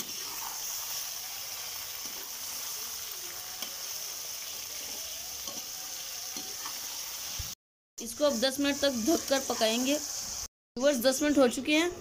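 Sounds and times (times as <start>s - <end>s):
chicken sizzling in oil: 0.0s - 10.5s.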